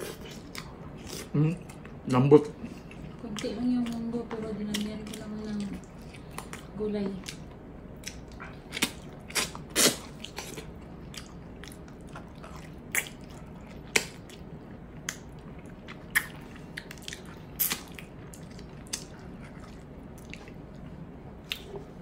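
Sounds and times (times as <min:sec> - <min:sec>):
person chewing with wet smacks: 0:00.0 - 0:22.0.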